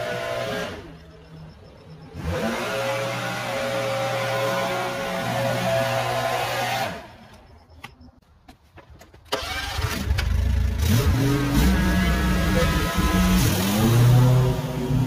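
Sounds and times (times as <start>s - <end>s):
engine humming and revving: 0.0s - 7.4s, 9.3s - 15.0s.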